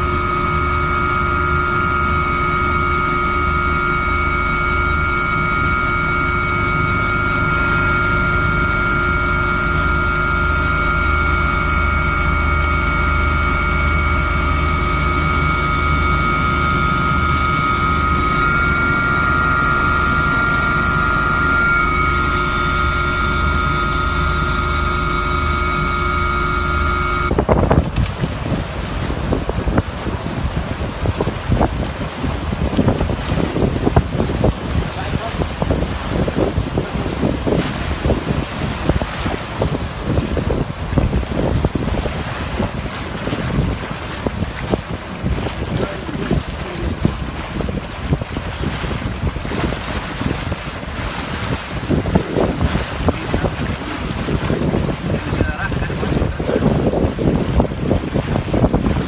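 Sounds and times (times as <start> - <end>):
gusty wind: 0.0 - 59.0
motor hum with high whine: 0.0 - 59.0
water noise: 0.0 - 59.0.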